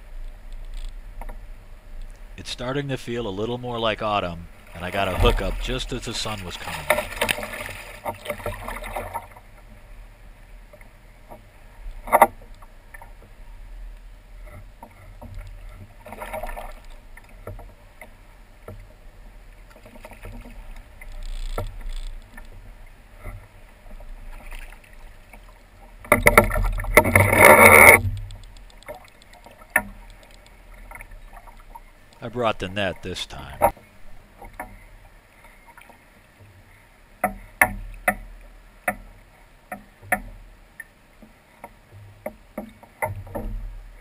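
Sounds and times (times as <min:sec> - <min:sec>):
water splashing against kayak hull: 0:00.3 - 0:44.0.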